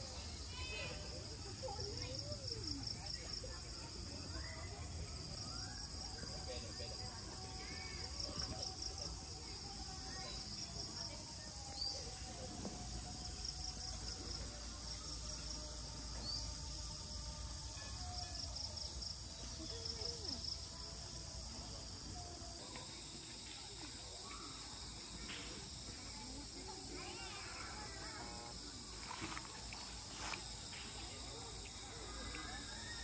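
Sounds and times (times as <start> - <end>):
insects chirping in rapid pulses: 4.3 - 22.6, 23.3 - 33.0.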